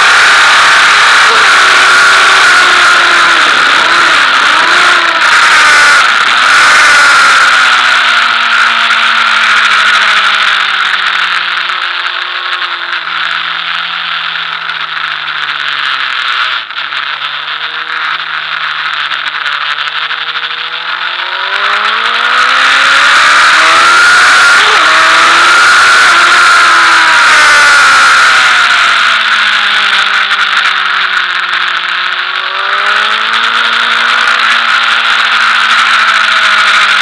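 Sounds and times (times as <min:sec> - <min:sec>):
motorcycle engine downshifting: 0:00.0 - 0:37.0.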